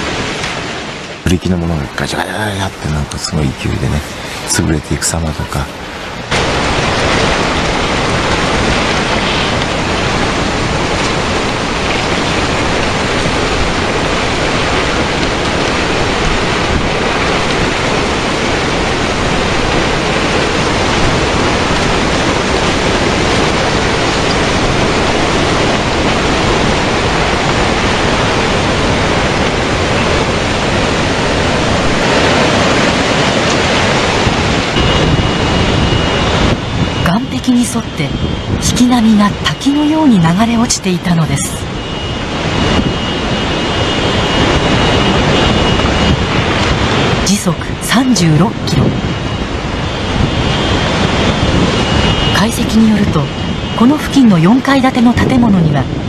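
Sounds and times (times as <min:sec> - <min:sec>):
floodwater roaring with debris: 0:00.0 - 0:56.0.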